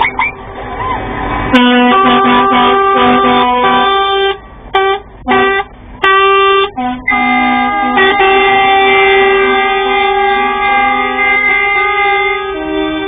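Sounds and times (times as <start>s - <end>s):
truck air horn blasts: 1.5s - 13.0s.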